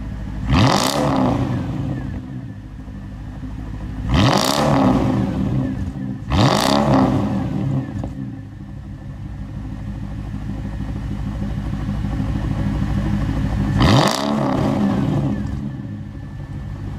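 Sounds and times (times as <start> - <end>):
car engine revving: 0.0 - 10.9, 11.6 - 16.9.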